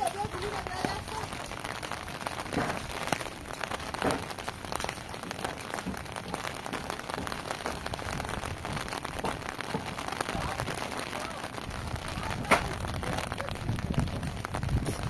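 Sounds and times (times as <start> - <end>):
rain on hard surfaces: 0.0 - 15.0.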